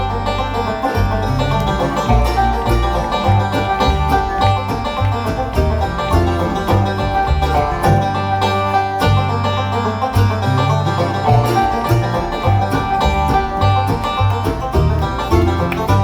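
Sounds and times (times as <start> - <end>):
fast picked banjo: 0.0 - 16.0
guitar: 0.0 - 16.0
steady bass line: 0.0 - 16.0.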